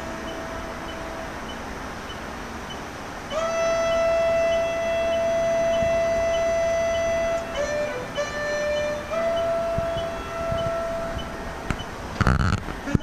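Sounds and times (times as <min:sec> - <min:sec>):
saxophone notes: 0:00.0 - 0:01.7, 0:03.3 - 0:13.0
metronome ticking: 0:00.0 - 0:13.0.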